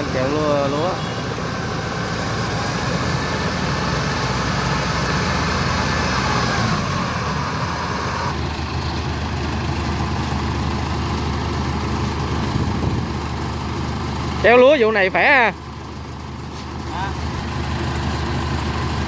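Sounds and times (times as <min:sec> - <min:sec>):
combine harvester diesel engine: 0:00.0 - 0:19.0.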